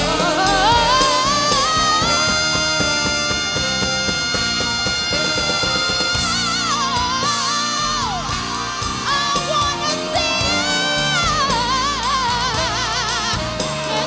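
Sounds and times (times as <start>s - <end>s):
live band playing: 0.0s - 14.0s
woman singing with vibrato: 0.0s - 14.0s.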